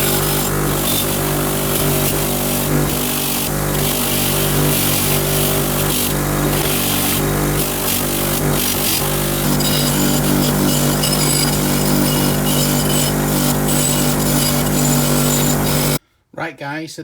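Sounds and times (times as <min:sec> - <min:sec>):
electric motor running: 0:00.0 - 0:16.0
wire wheel scratching metal: 0:00.0 - 0:16.0.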